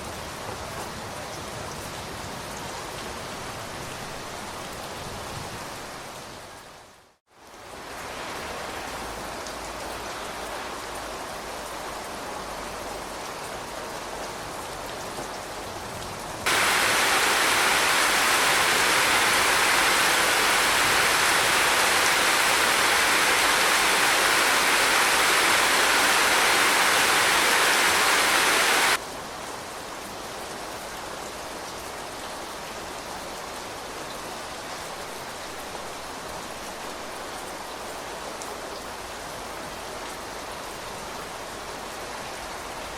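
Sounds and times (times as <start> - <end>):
heavy downpour: 0.0 - 42.9
steady rain falling: 0.0 - 42.9.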